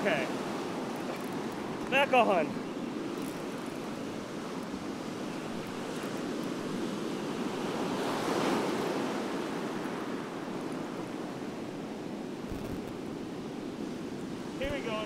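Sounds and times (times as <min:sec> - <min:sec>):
surf breaking on a beach: 0:00.0 - 0:15.0.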